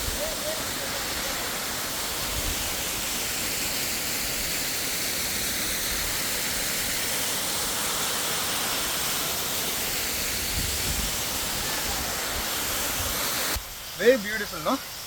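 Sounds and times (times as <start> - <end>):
waterfall pouring onto rocks: 0.0 - 15.0.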